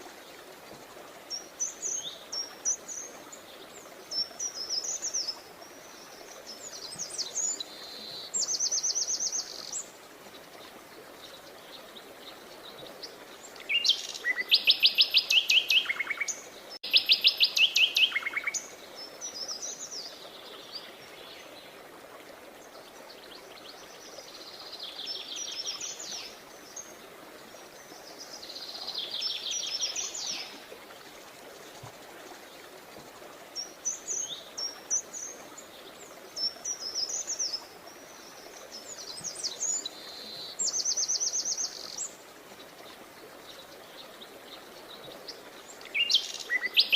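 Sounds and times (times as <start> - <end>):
faint background hiss: 0.0 - 46.9
songbirds singing: 1.3 - 21.8, 22.5 - 46.9.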